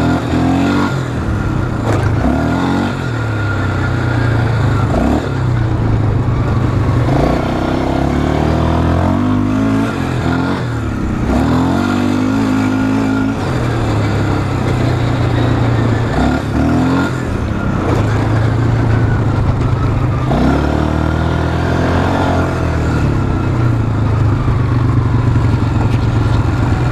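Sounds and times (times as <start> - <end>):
quad bike engine revving: 0.0 - 26.9.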